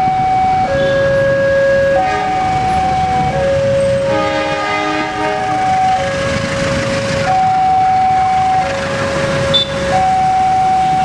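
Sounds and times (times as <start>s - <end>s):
two-tone crossing warning alarm: 0.0s - 11.0s
diesel train running: 0.6s - 11.0s.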